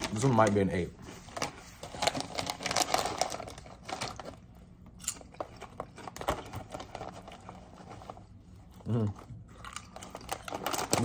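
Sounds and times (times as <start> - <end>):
plastic snack bag crinkling: 0.0 - 11.0.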